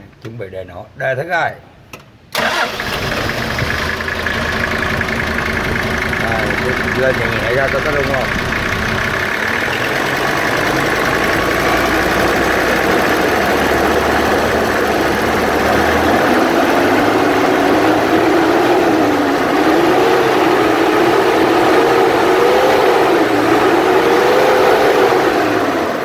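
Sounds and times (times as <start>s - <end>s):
diesel engine running and revving: 2.4s - 26.0s.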